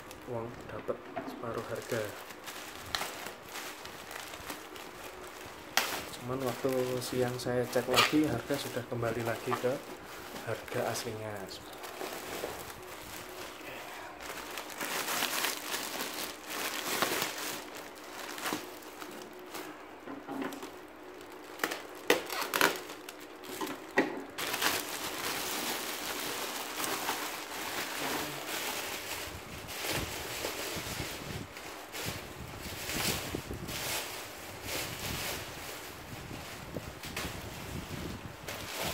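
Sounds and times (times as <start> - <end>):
plastic packaging crinkling: 0.0 - 38.9.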